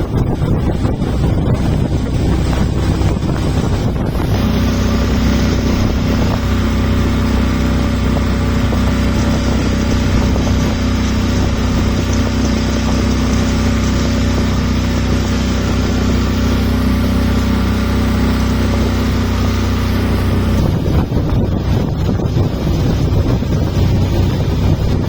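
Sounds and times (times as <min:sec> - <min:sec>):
motorboat engine: 0:00.0 - 0:25.0.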